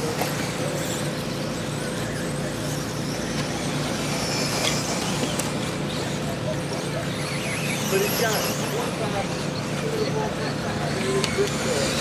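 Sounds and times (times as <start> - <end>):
constant low hum: 0.0 - 12.0
radio-controlled buggies running: 0.0 - 12.0.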